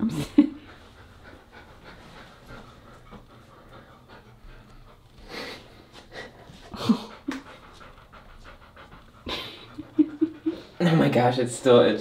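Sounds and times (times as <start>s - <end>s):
dog panting: 0.1s - 12.0s.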